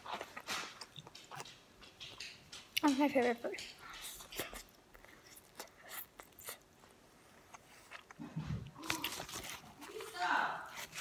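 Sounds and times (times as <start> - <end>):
child chewing and smacking: 0.0 - 10.1.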